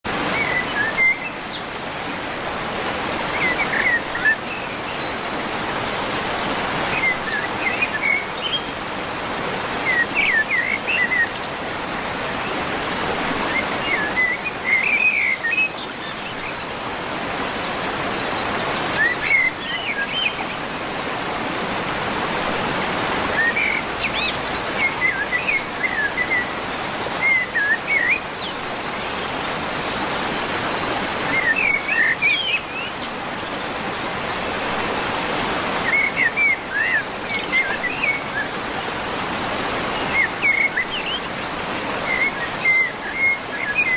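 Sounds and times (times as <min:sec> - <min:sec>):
birds chirping: 0:00.1 - 0:43.9
waterfall rushing: 0:00.1 - 0:43.9.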